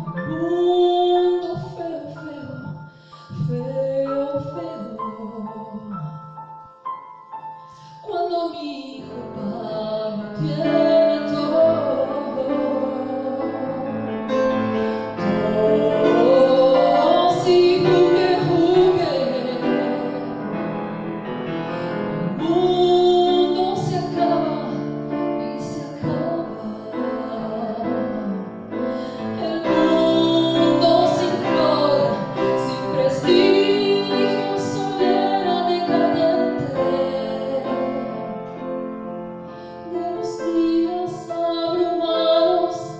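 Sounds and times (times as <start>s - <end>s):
woman singing: 0.0s - 6.2s, 7.7s - 20.6s, 22.2s - 38.6s, 39.8s - 42.9s
piano accompaniment: 0.0s - 42.9s.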